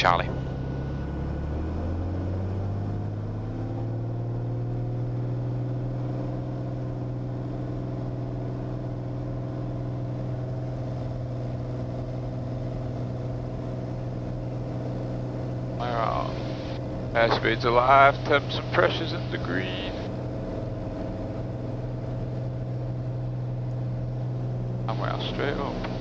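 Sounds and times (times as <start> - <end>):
aircraft engine and propeller: 0.0 - 26.0.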